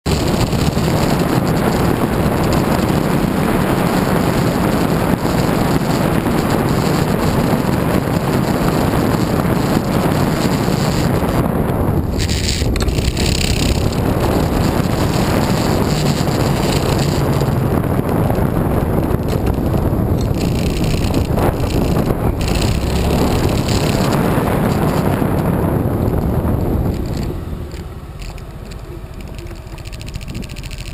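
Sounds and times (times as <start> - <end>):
road noise: 0.0 - 30.9
scooter engine: 0.0 - 30.9
wind rushing over microphone: 0.0 - 30.9.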